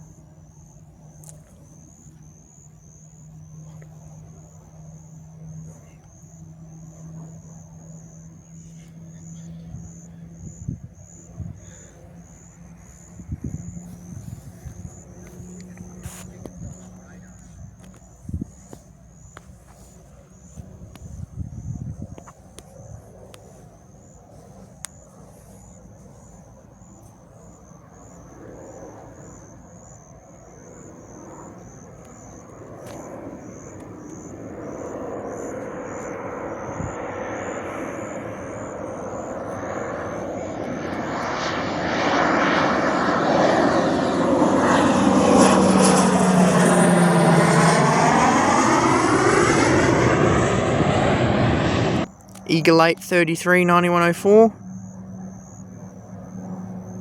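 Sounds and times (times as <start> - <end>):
aircraft flying low past: 0.0 - 57.0.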